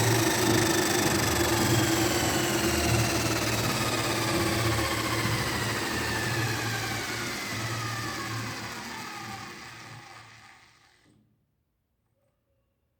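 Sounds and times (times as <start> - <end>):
electric motor whine winding down: 0.0 - 11.1.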